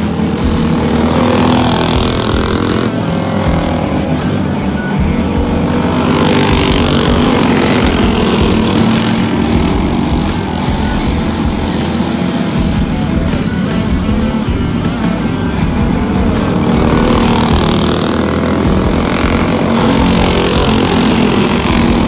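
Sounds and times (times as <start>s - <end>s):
racing kart engines: 0.0s - 22.0s.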